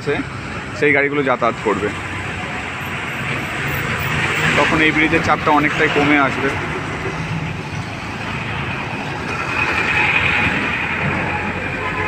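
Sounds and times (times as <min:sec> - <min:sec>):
heavy vehicle rumbling past: 0:00.2 - 0:12.0.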